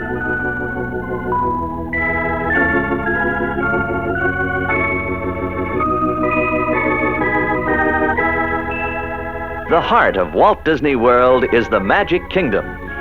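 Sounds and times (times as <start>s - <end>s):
organ music: 0.0s - 13.0s.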